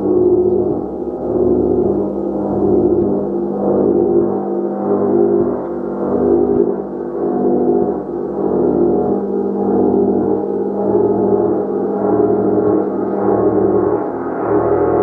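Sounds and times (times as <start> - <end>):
large gong shimmering: 0.0 - 15.0.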